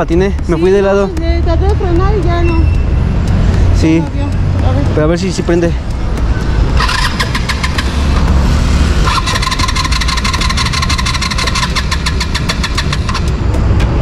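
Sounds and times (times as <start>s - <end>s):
motorcycle engine ticking: 0.0s - 14.0s.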